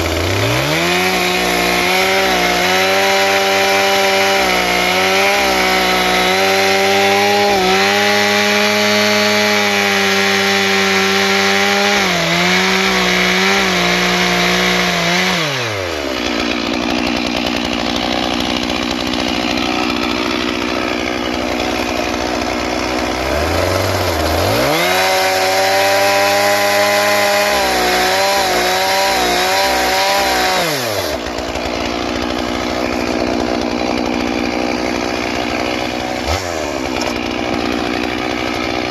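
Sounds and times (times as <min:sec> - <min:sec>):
chainsaw cutting logs: 0:00.0 - 0:38.9
chainsaw idling: 0:00.0 - 0:38.9.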